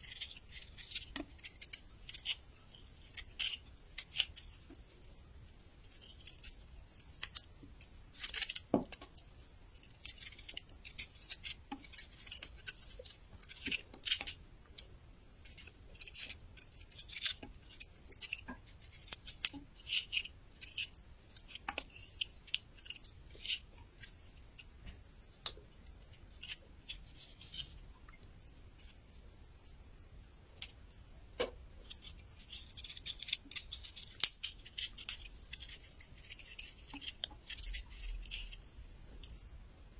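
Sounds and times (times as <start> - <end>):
crunching and chewing ginger: 0.0 - 29.2, 31.7 - 39.9.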